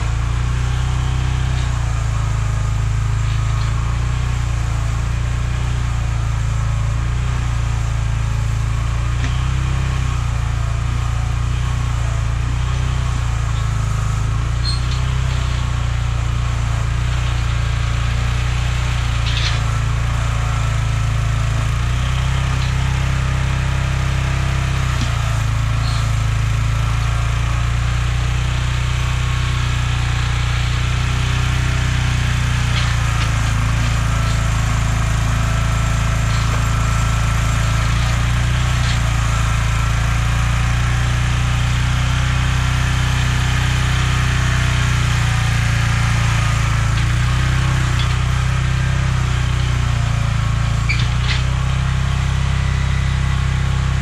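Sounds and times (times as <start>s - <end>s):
small engine humming: 0.0s - 54.0s.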